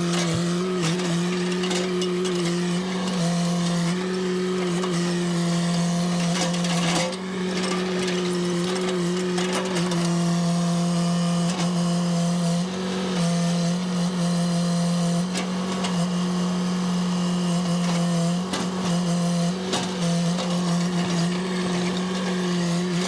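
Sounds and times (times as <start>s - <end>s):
chainsaw running at high revs: 0.0s - 23.0s.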